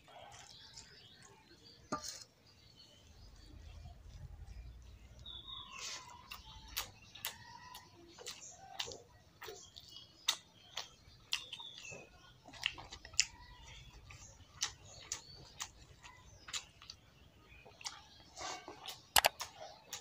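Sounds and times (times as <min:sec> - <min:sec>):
wet chewing mouth sounds: 0:00.0 - 0:01.8, 0:03.4 - 0:20.0.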